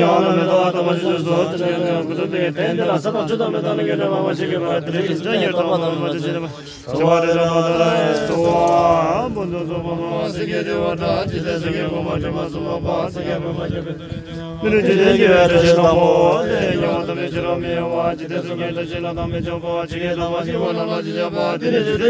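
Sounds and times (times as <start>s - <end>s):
men chanting prayer: 0.0s - 22.0s.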